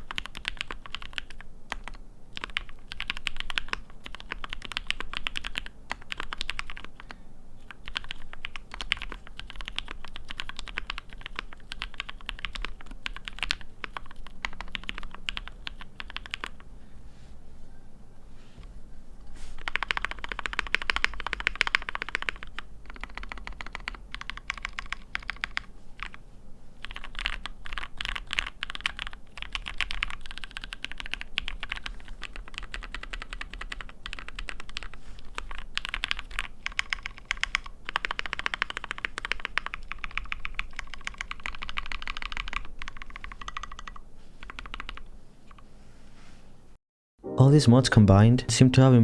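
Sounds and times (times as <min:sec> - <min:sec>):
fast typing on mechanical keyboard: 0:00.0 - 0:16.6, 0:19.6 - 0:26.2, 0:26.8 - 0:45.6.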